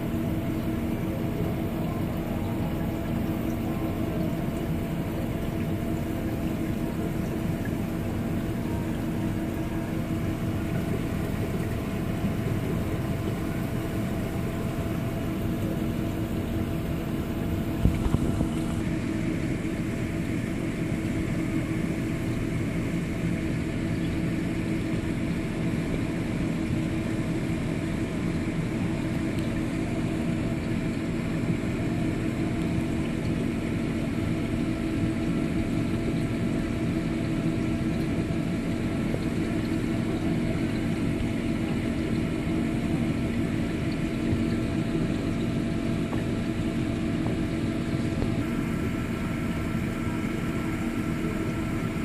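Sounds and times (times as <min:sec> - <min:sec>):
mechanical hum with low drone: 0:00.0 - 0:52.0.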